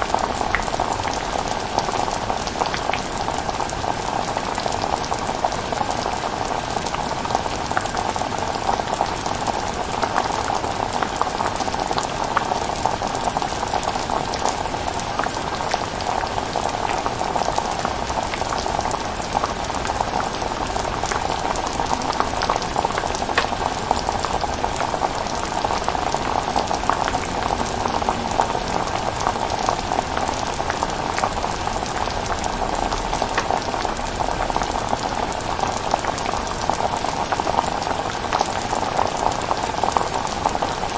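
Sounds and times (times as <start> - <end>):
chilli bubbling in a pan: 0.0 - 40.9.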